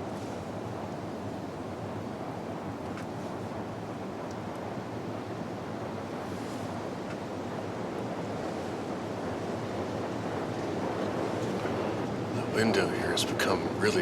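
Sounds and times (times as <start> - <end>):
strong wind through trees: 0.0 - 14.0.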